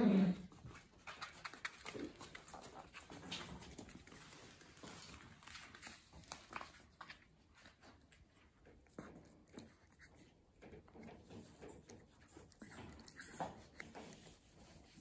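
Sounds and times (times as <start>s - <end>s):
puppy claws ticking on floor: 0.6s - 15.0s.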